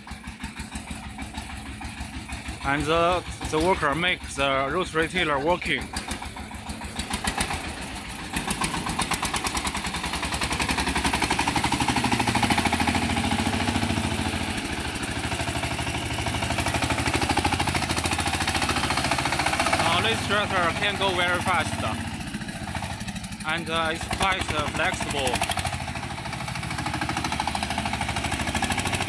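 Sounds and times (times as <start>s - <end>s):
small diesel tractor engine: 0.0s - 29.0s.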